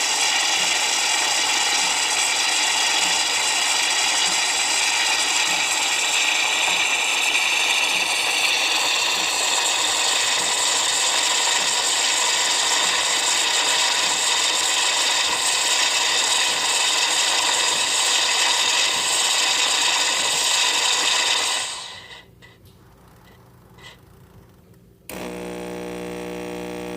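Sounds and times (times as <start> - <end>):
espresso machine whirring: 0.0 - 22.3, 25.1 - 26.9.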